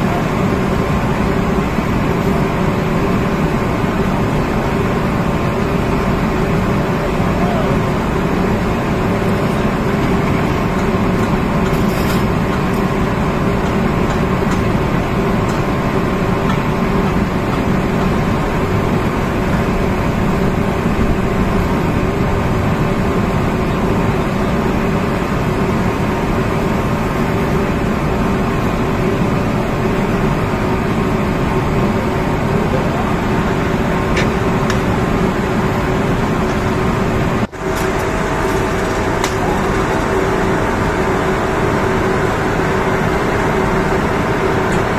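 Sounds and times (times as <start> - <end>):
machinery humming: 0.0 - 44.9.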